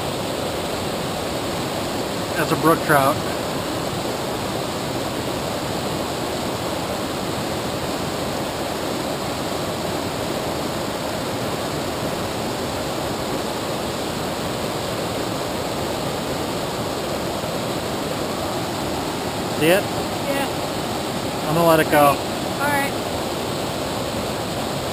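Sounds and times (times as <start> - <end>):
fast-flowing river rushing: 0.0 - 24.9.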